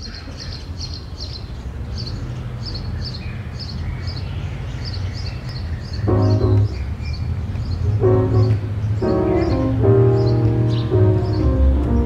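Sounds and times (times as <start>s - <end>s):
low rumble of traffic: 0.0s - 12.0s
small bird chirping: 0.0s - 12.0s.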